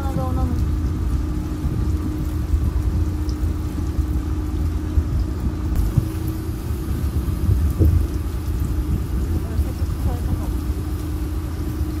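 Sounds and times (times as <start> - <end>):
boat engine hum: 0.0 - 12.0
wind buffeting microphone: 0.0 - 12.0.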